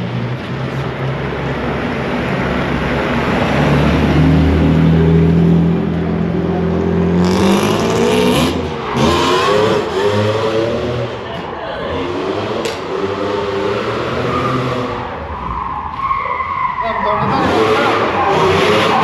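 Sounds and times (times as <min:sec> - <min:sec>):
car engine running and revving: 0:00.0 - 0:15.6, 0:17.0 - 0:19.0.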